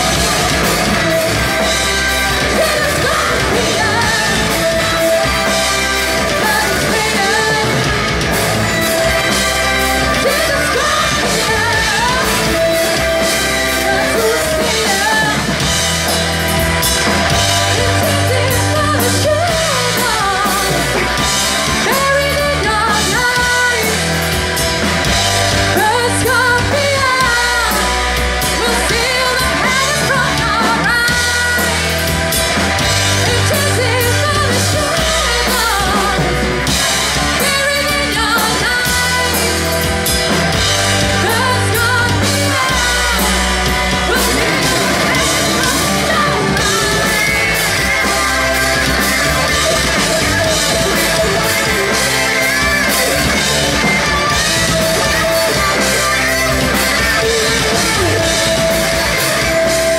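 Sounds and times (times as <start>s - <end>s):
bass guitar: 0.0s - 59.9s
distorted electric guitars: 0.0s - 59.9s
drum kit: 0.0s - 59.9s
woman singing: 0.3s - 8.2s, 10.0s - 15.7s, 17.5s - 24.2s, 25.7s - 32.1s, 33.2s - 36.4s, 37.3s - 39.9s, 41.1s - 52.0s, 54.4s - 59.9s.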